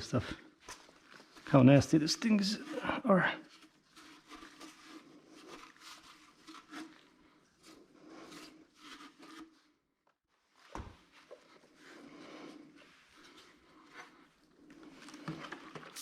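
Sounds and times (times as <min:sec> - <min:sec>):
rubbing and handling noises: 0:00.0 - 0:16.0.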